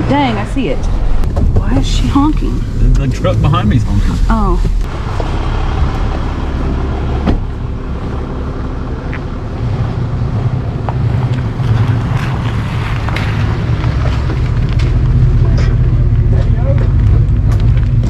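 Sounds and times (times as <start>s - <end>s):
tow truck engine rumbling: 0.0s - 18.0s.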